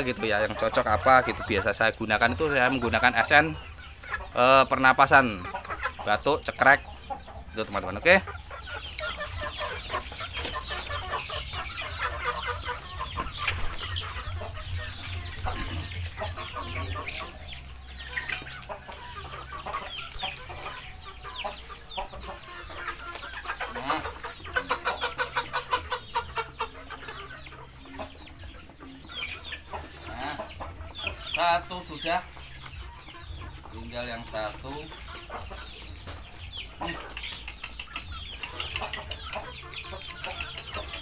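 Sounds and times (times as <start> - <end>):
chickens peeping and clucking: 0.0 - 41.0.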